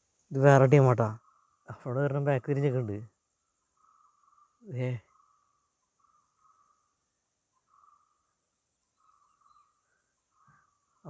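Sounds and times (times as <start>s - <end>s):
lower insect trill: 0.0s - 11.0s
high-pitched insect trill: 0.3s - 11.0s.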